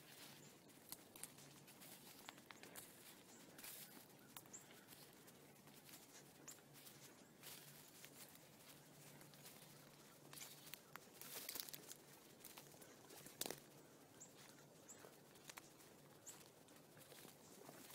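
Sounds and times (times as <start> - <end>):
footsteps: 0.0 - 17.9
rustling of dry corn stalks: 0.0 - 17.9.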